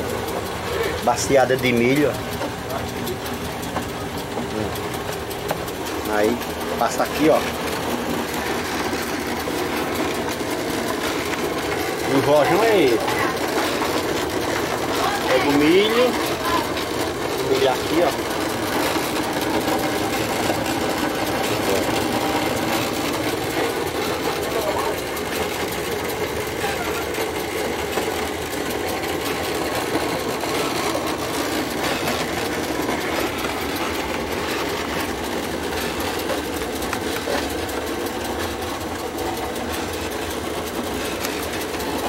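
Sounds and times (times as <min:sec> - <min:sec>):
corn grinding machine whirring: 0:00.0 - 0:42.0.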